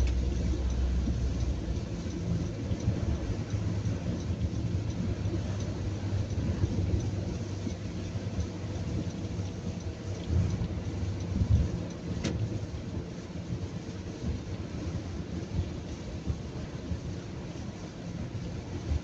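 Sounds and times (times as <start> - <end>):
car road rumble: 0.0 - 19.0
rain and spray hiss: 0.0 - 19.0.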